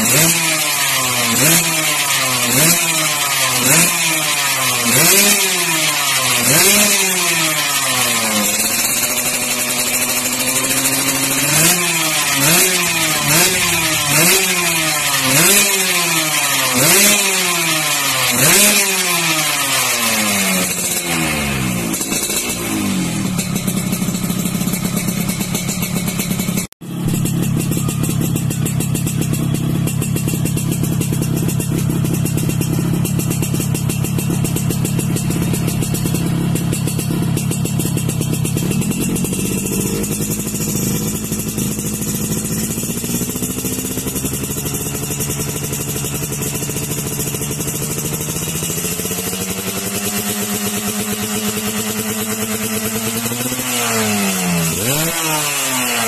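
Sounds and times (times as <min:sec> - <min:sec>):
motorcycle engine revving: 0:00.0 - 0:56.0
motorcycle idling: 0:00.0 - 0:56.0.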